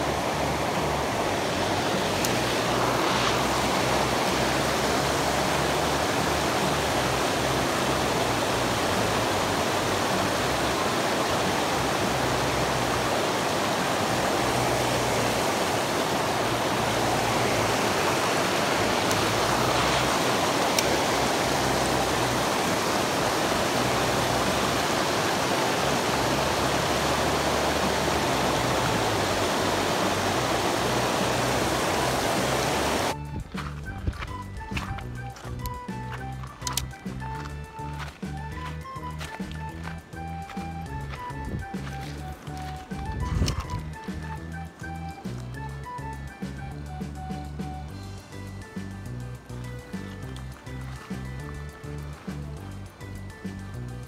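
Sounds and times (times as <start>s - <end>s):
river rushing over weir: 0.0s - 53.0s.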